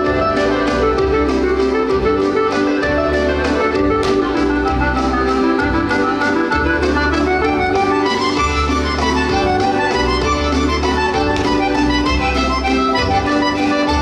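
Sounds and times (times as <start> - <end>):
accordion folk dance tune: 0.0 - 14.0.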